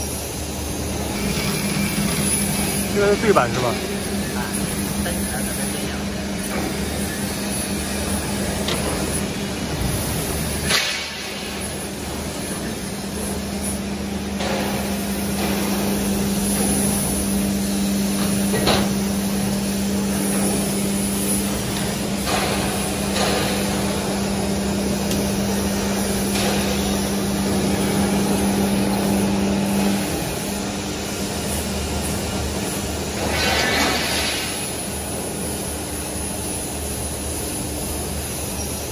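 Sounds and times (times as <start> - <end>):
hydraulic machine hum: 0.0 - 38.9.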